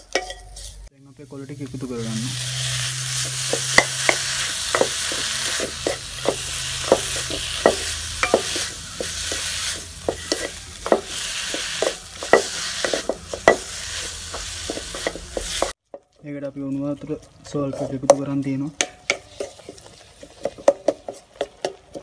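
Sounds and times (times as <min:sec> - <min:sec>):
metal spoon scraping a pan: 0:00.0 - 0:00.9, 0:01.7 - 0:16.1, 0:17.0 - 0:22.0
greens sizzling in oil: 0:00.0 - 0:15.8, 0:16.5 - 0:22.0.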